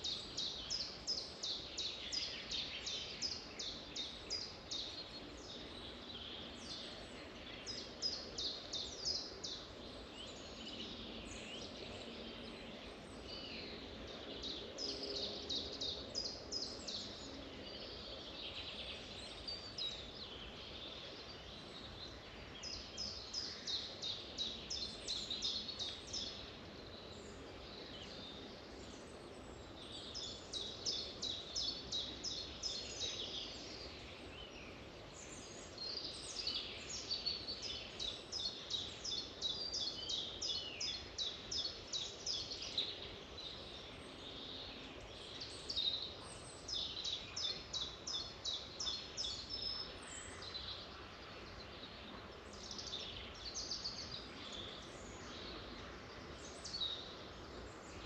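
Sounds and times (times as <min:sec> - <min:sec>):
faint steady background hiss: 0:00.0 - 0:58.0
songbirds chirping: 0:00.0 - 0:58.0.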